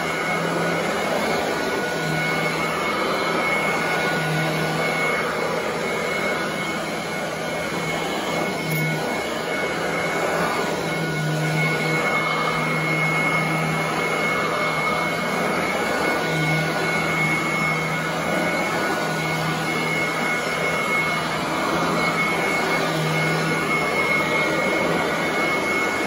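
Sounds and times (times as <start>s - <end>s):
upright vacuum cleaner running: 0.0s - 26.0s.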